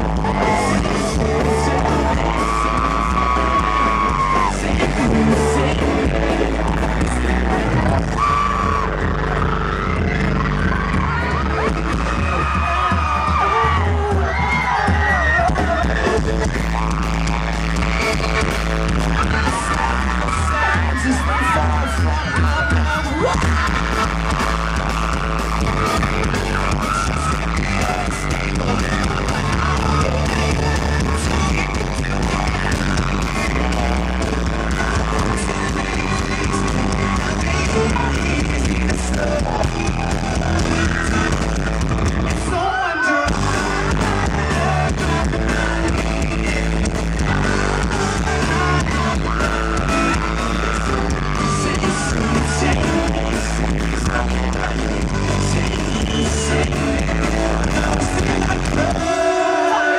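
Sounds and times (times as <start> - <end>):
lead singer singing: 0.0 - 9.3, 10.7 - 59.9
live rock band playing: 0.0 - 59.9.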